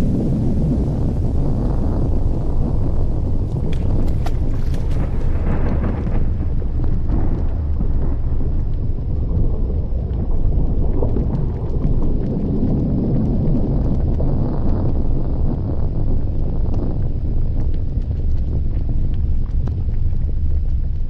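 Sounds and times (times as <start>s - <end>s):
faint crackles: 0.0s - 21.0s
volcano rumbling: 0.0s - 21.0s.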